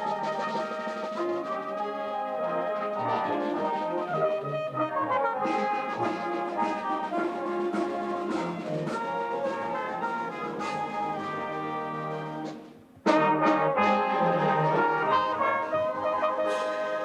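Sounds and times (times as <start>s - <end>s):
brass band playing chords: 0.0s - 17.0s.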